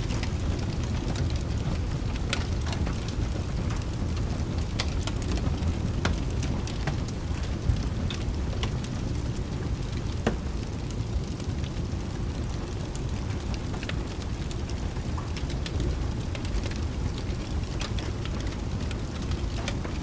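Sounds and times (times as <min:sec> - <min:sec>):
fire crackles and pops: 0:00.0 - 0:20.0
steady rain: 0:00.0 - 0:20.0.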